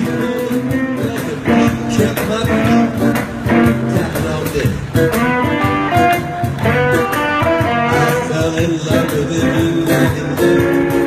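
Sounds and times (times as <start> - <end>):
acoustic guitar: 0.0 - 11.0
electric guitar: 0.0 - 11.0
steady drum beat: 0.0 - 11.0.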